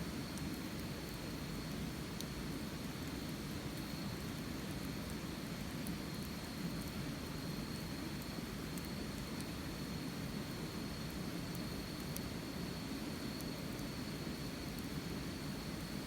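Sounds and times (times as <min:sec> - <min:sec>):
fire crackles: 0:00.0 - 0:16.0.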